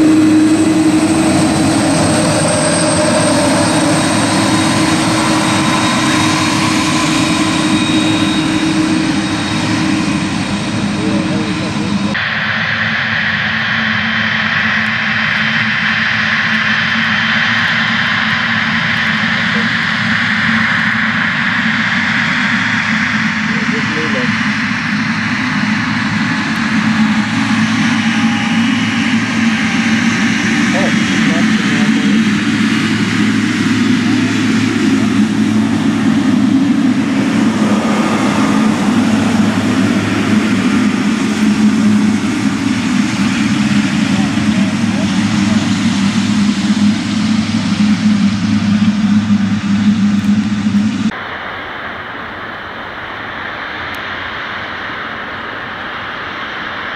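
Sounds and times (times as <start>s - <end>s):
jet engines whining: 0.0s - 56.9s.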